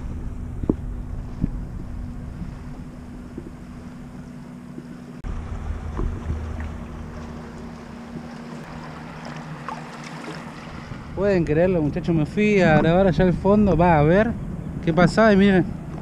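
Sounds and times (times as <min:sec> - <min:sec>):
wind on microphone: 0:00.0 - 0:09.0, 0:10.5 - 0:16.0
steady low hum: 0:00.0 - 0:16.0.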